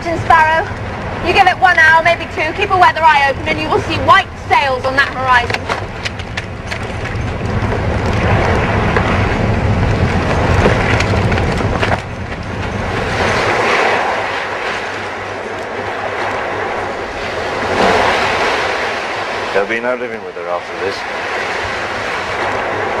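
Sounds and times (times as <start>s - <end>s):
deep rumble: 0.0s - 23.0s
surf: 0.0s - 23.0s
wind: 0.0s - 23.0s.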